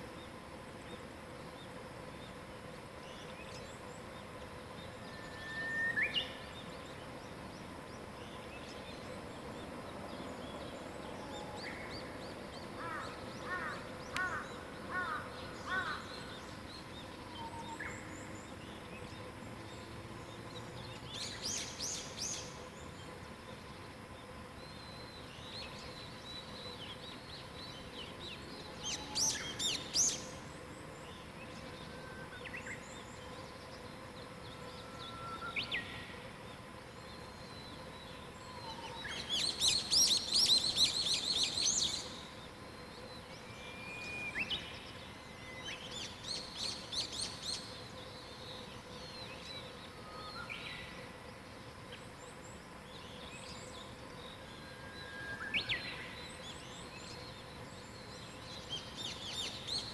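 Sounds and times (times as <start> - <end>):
faint steady hum: 0.0 - 59.9
birds singing and calling: 3.0 - 23.8, 24.6 - 59.9.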